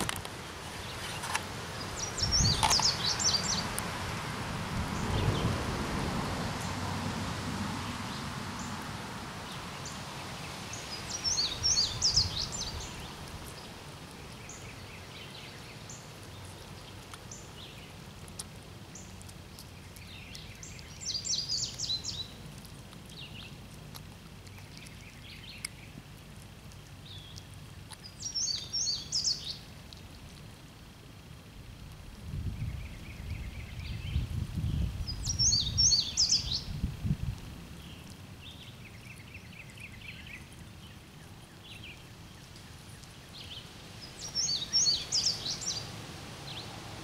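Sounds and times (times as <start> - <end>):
outdoor background noise: 0.0 - 47.0.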